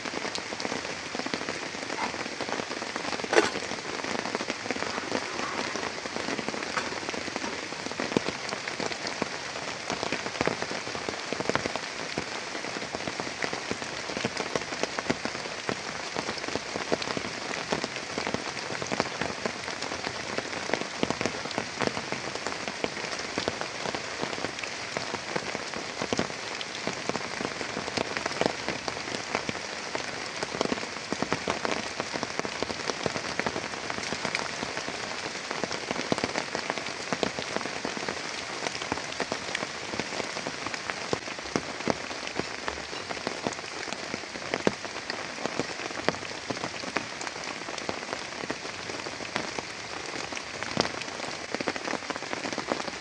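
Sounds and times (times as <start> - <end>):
heavy rain: 0.0 - 53.0
raindrops pattering on a surface: 0.0 - 53.0.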